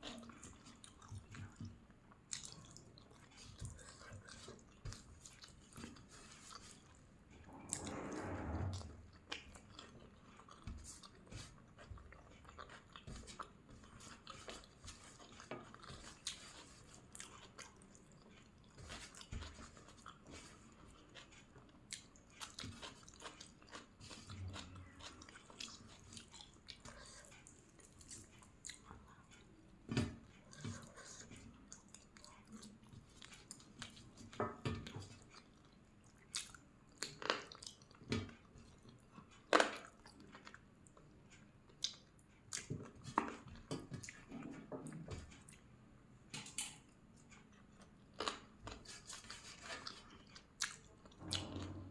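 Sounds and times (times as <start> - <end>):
person chewing food: 0.0 - 7.0, 9.5 - 45.7, 46.8 - 51.8.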